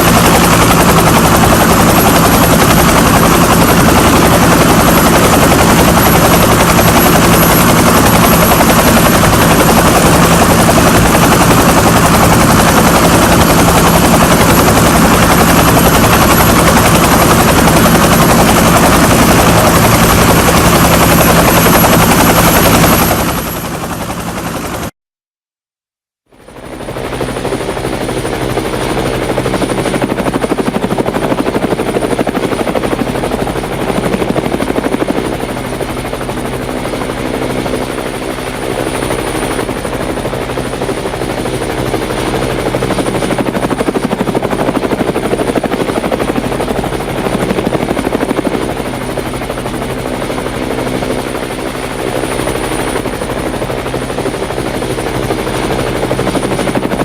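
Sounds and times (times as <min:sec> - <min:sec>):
helicopter rotor hum: 0:00.0 - 0:24.9, 0:26.3 - 0:57.0.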